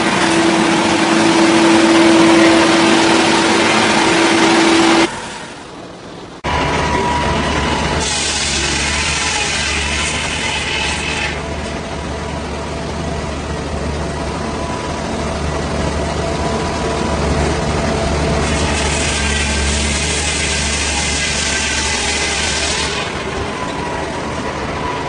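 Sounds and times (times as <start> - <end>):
wood-cutting machine engine: 0.0 - 25.0.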